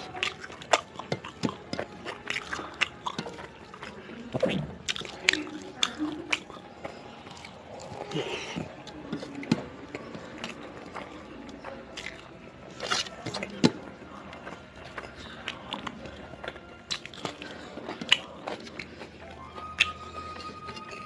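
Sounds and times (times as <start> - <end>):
chewing and biting: 0.0 - 21.0.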